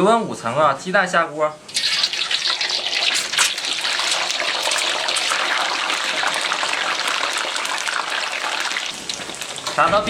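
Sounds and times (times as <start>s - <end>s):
eggs sizzling in oil: 1.7s - 9.9s.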